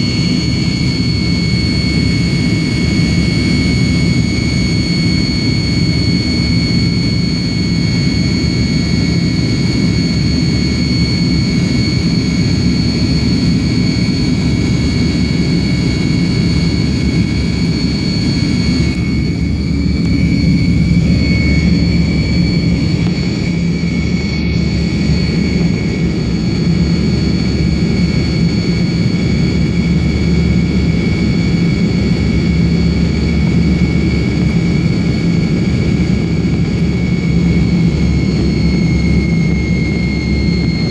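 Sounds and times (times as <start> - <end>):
high engine whine: 0.0 - 40.9
jet engines rumbling: 0.0 - 40.9.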